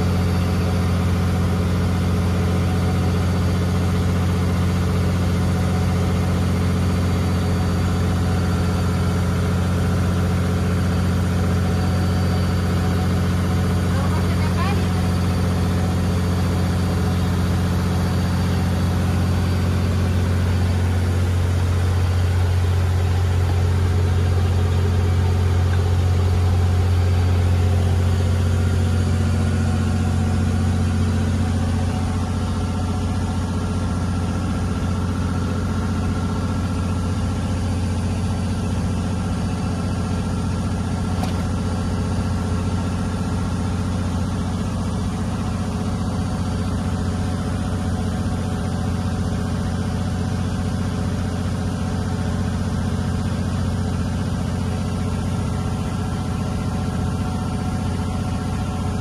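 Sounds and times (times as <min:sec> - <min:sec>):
boat engine droning: 0:00.0 - 0:48.2.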